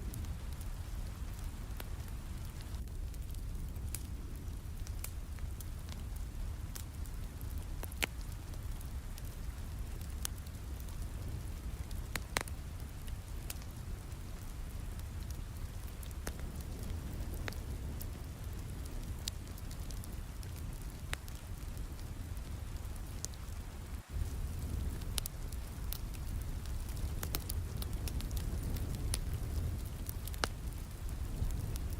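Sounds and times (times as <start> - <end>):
steady rain: 0.0 - 31.9
wood fire crackling and popping: 0.0 - 31.9.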